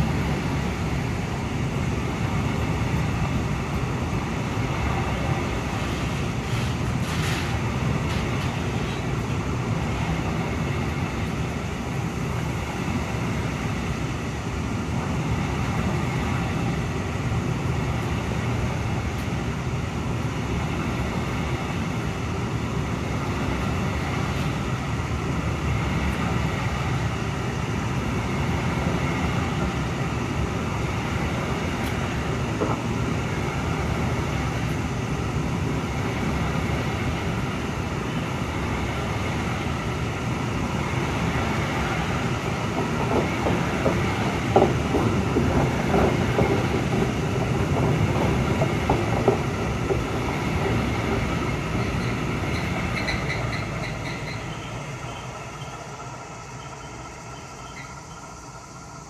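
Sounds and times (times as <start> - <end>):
wheels clacking over rail joints: 0.0 - 14.3, 17.9 - 59.0
steel wheels rumbling on rails: 0.0 - 59.0.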